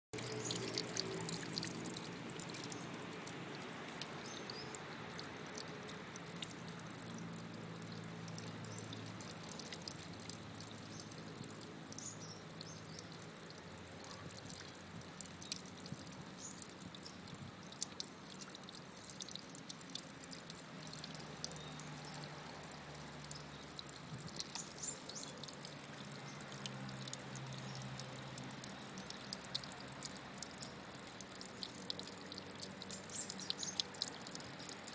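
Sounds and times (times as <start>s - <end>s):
water trickling and dripping: 0.2s - 34.9s.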